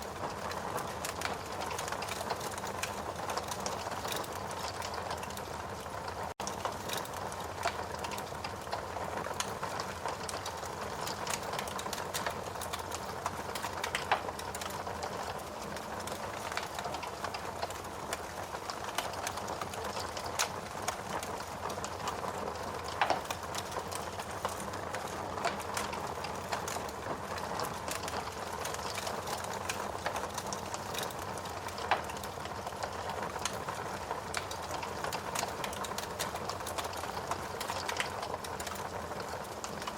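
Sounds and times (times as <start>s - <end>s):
fireplace logs crackling: 0.0s - 39.9s.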